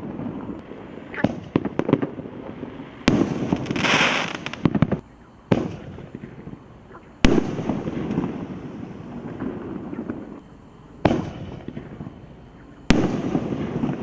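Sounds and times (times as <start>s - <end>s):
sharp firework pops: 0.0s - 2.2s, 3.0s - 10.4s, 11.0s - 14.0s
firework bangs: 0.0s - 10.4s, 11.0s - 14.0s
crackling hiss of fireworks: 0.0s - 14.0s.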